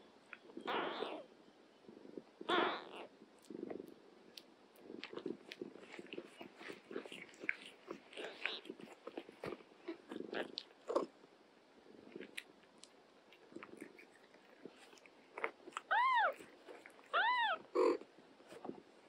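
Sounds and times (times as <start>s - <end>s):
cats licking and kittens suckling: 1.9s - 11.2s, 11.8s - 19.0s.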